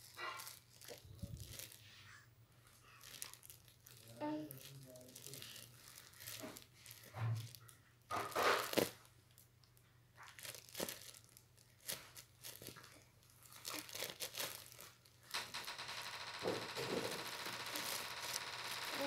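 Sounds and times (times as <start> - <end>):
plastic wrapping crinkling: 0.0 - 2.0, 2.8 - 19.0.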